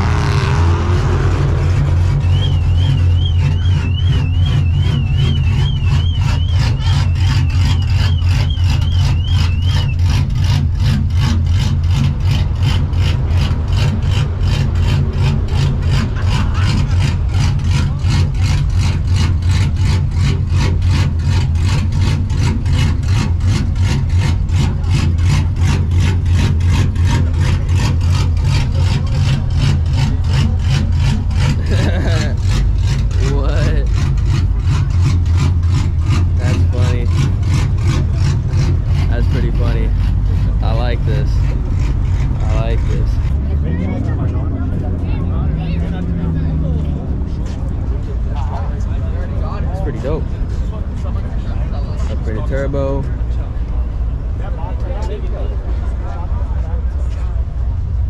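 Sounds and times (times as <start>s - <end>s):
vee eight engine idling: 0.0s - 58.0s.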